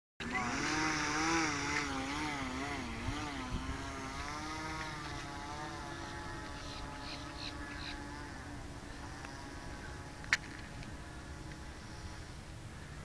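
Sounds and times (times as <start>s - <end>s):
electric motor propeller whine: 0.2s - 13.0s.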